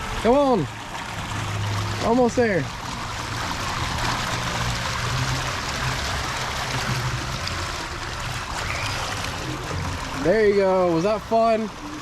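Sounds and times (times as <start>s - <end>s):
running water rushing and splashing: 0.0s - 12.0s.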